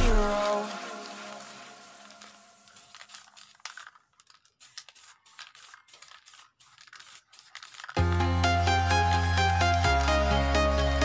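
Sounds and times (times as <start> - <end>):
spray paint can hissing: 0.0 - 10.3.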